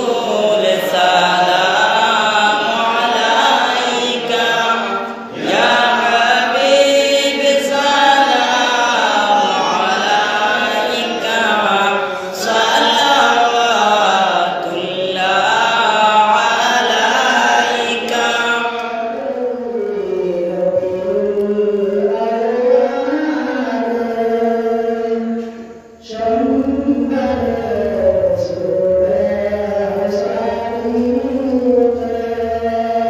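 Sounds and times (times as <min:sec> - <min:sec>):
man chanting devotional recital: 0:00.0 - 0:33.0.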